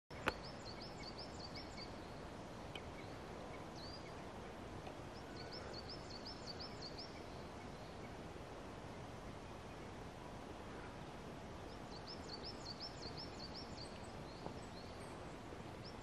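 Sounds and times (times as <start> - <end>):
background hiss: 0.1 - 16.0
songbird singing: 0.1 - 16.0.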